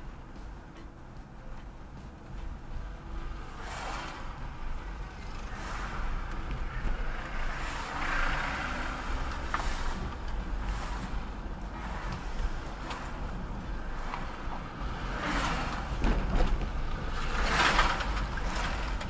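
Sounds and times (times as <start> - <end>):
passing vehicles hissing: 0.0 - 19.0
road and engine rumble inside car: 0.0 - 19.0.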